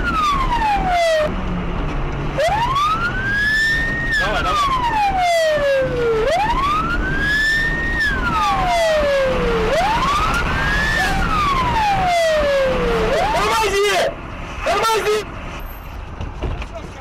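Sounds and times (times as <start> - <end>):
police siren wailing: 0.0 - 1.3, 2.4 - 15.2.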